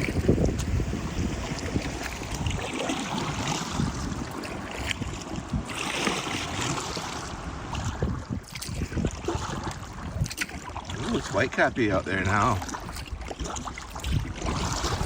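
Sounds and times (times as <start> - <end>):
waves slapping against canoe: 0.0 - 15.0
wind gusting across microphone: 0.0 - 15.0.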